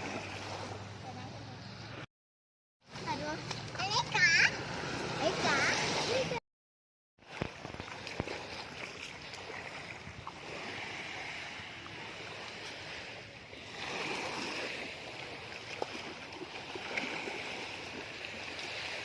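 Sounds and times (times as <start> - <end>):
sea surf washing: 2.9 - 6.4, 7.2 - 19.0.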